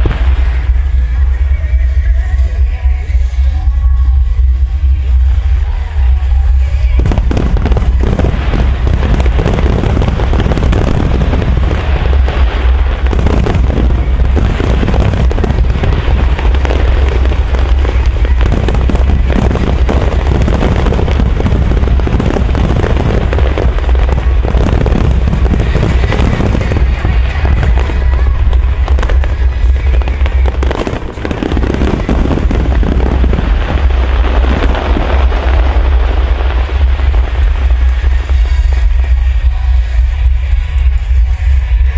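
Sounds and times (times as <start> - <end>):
fireworks bursts and crackling: 0.0 - 41.9
heavy fireworks booms: 0.0 - 41.9
music: 0.0 - 41.9.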